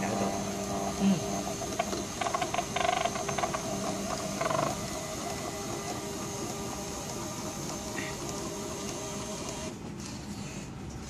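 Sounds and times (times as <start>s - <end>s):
pump motor humming: 0.0s - 9.8s.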